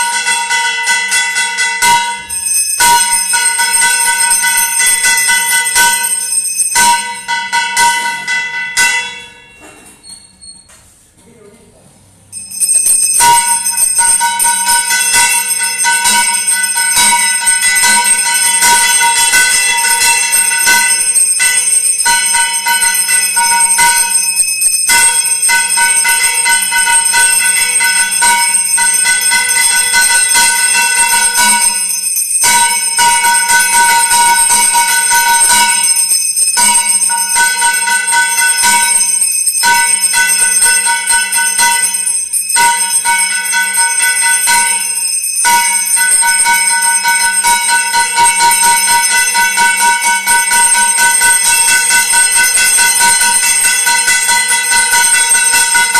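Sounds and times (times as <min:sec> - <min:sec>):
temple bells ringing rapidly: 0:00.0 - 0:10.6, 0:12.3 - 0:55.9.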